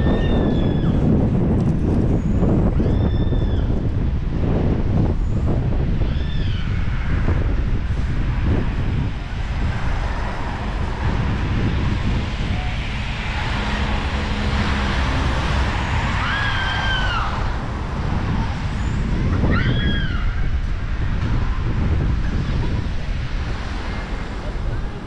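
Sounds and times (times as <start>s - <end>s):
outdoor noise rush: 0.0s - 25.0s
wind buffeting microphone: 0.0s - 25.0s.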